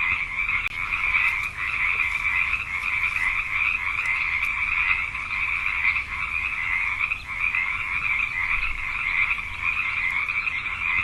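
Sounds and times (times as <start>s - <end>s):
chorus of frogs trilling: 0.0s - 11.0s.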